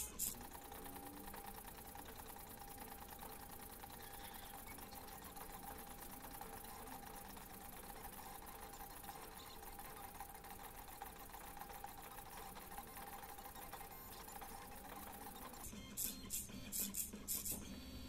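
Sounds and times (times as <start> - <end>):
stepper motors whining and ticking: 0.0 - 18.0.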